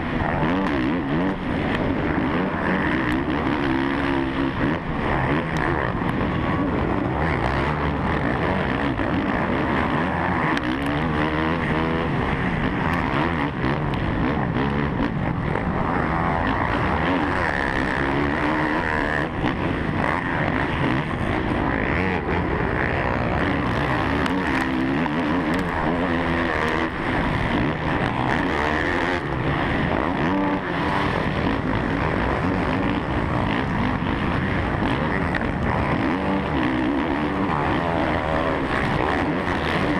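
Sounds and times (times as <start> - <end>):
motocross bike engine revving: 0.0 - 39.9
other motorbike engines: 0.0 - 39.9.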